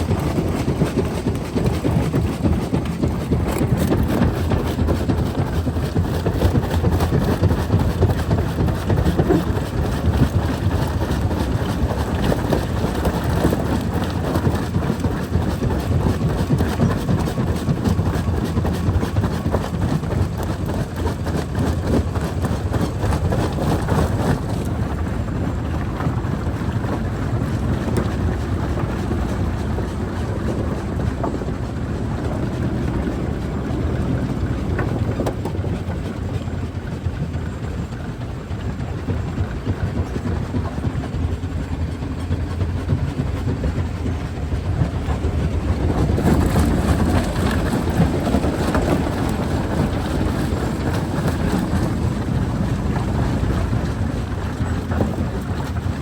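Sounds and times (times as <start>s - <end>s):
rock crusher rumbling and cracking: 0.0s - 56.0s.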